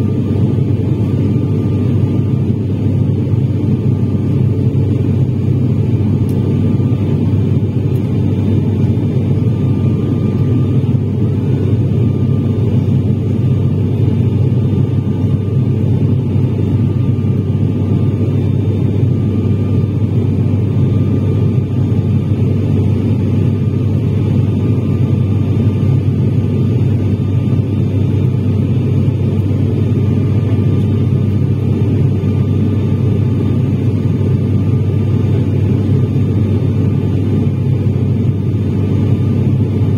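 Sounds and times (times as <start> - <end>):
faint steady whine: 0.0 - 39.9
turboprop engines droning: 0.0 - 39.9.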